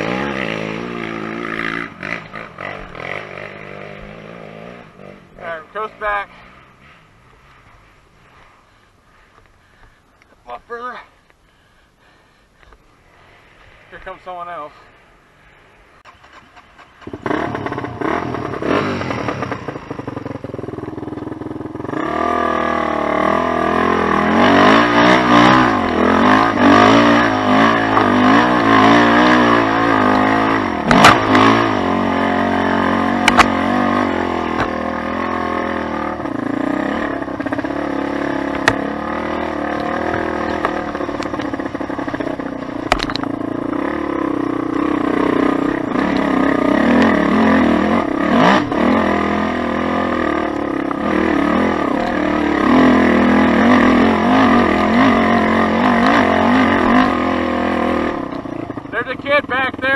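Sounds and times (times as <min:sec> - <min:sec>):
motorcycle engine revving: 0:00.0 - 0:07.6, 0:16.0 - 0:59.9.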